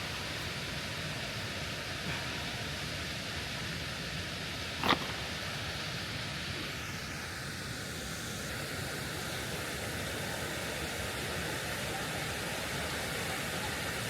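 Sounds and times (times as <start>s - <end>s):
steady rushing outdoor noise: 0.0s - 14.0s.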